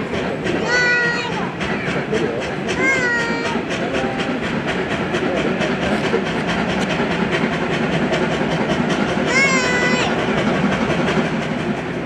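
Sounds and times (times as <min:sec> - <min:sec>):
steam hiss: 0:00.0 - 0:12.0
steam locomotive exhaust chuffs: 0:00.0 - 0:12.0.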